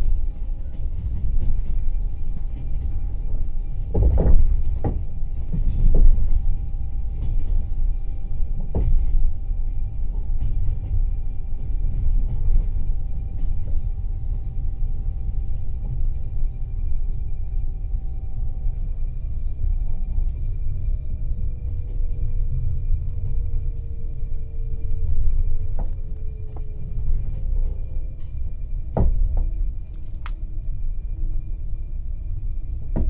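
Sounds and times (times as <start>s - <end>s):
train car rumbling on rails: 0.0s - 33.0s.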